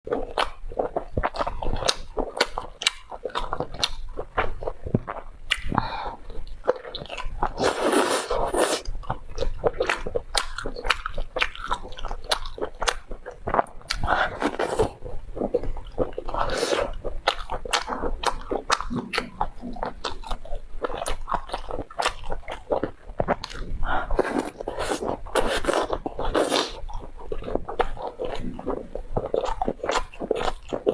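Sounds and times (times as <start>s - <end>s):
crunchy chewing: 0.1s - 30.9s.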